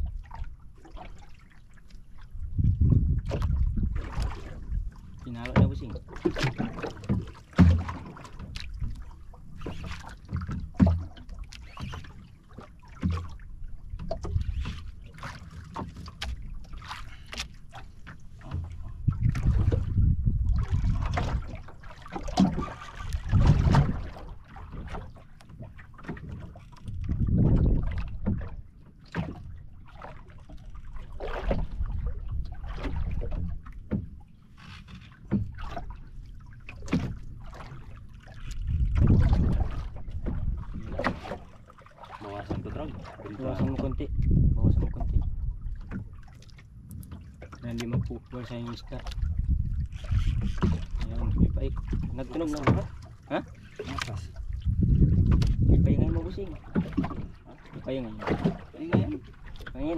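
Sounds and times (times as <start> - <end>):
low rumble of wind and swell: 0.0 - 59.9
water lapping against boat hull: 0.0 - 59.9.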